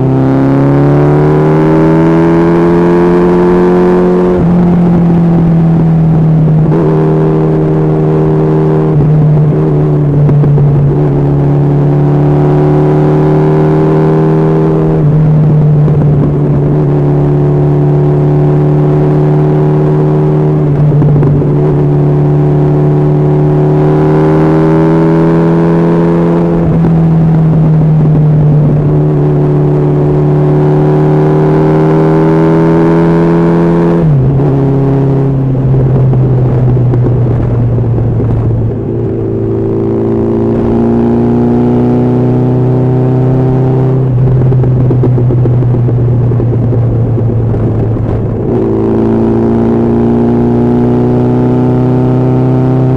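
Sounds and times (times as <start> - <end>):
motorcycle engine cruising: 0.0 - 52.9
wind rush: 0.0 - 52.9.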